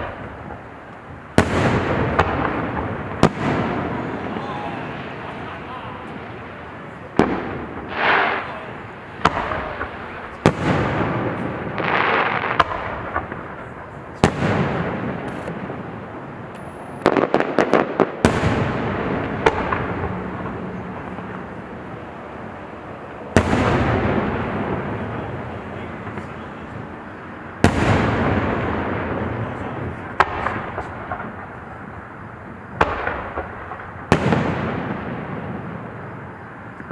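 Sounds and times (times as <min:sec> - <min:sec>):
fireworks booming: 0:00.0 - 0:36.9.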